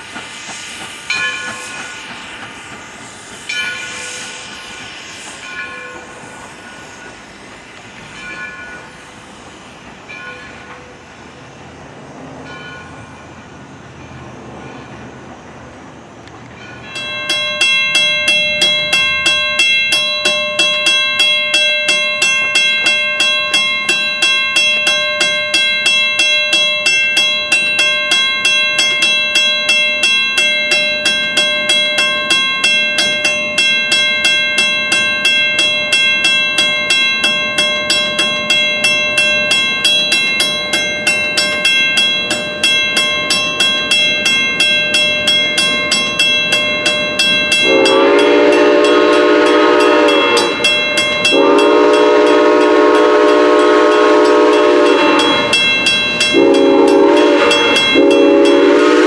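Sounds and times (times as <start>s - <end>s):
crossing warning bell ringing: 1.0s - 9.1s, 10.0s - 14.3s, 16.4s - 59.0s.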